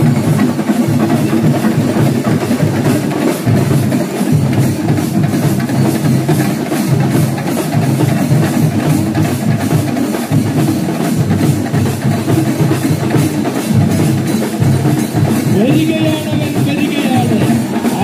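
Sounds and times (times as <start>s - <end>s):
percussion ensemble drumming: 0.0s - 18.0s.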